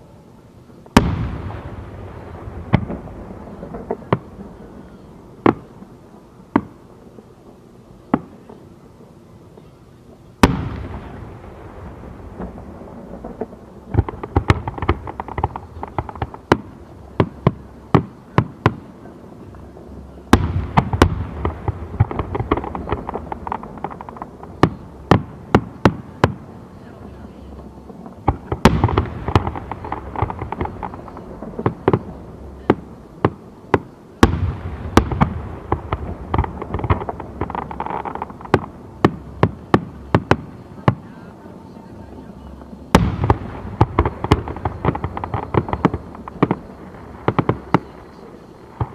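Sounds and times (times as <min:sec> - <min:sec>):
fireworks bursting: 0:00.0 - 0:48.9
rumble and crackle: 0:00.8 - 0:48.9.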